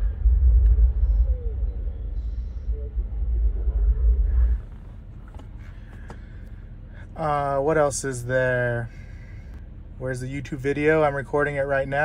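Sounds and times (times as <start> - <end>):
deep rumble of film soundtrack: 0.0 - 12.0.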